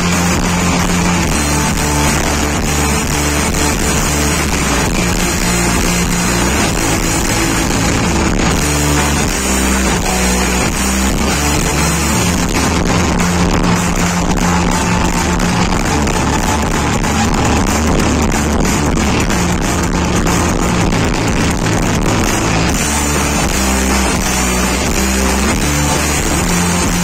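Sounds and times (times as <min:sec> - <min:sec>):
bass guitar: 0:00.0 - 0:27.0
drum kit: 0:00.0 - 0:27.0
electric guitars: 0:00.0 - 0:27.0.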